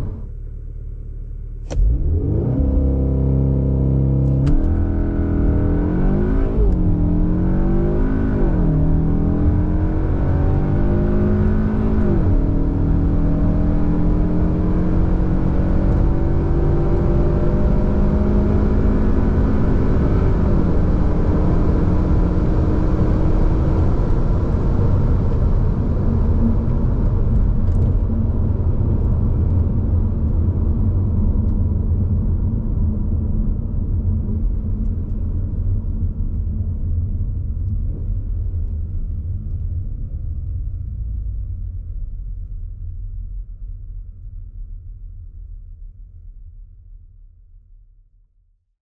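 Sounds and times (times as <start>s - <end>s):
car engine accelerating: 0.0s - 42.0s
low road rumble: 0.0s - 47.0s.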